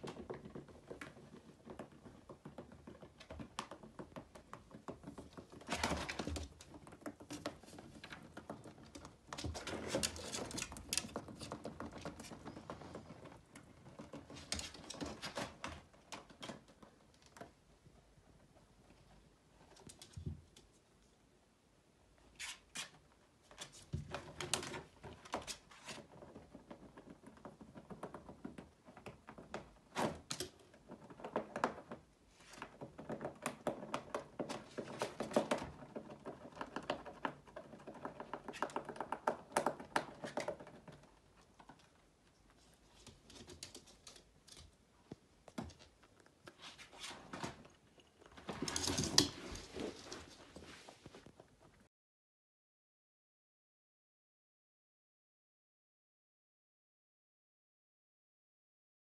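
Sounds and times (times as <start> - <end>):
rabbit chewing and gnawing: 0.0 - 21.1, 22.3 - 51.8.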